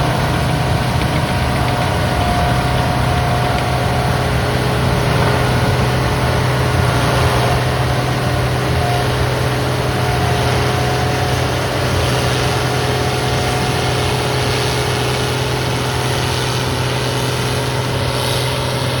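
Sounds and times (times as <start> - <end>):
faint steady whine: 0.0 - 17.8
farm machinery engine drone: 0.0 - 19.0.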